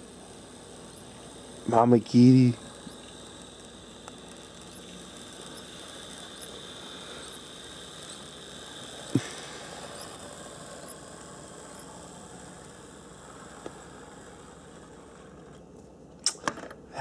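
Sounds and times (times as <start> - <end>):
model train motor hum: 0.0 - 15.7.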